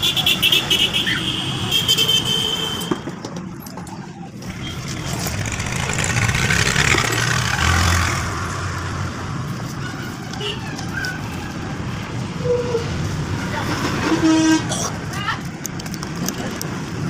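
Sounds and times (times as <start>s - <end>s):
vehicles driving past: 0.0s - 17.0s.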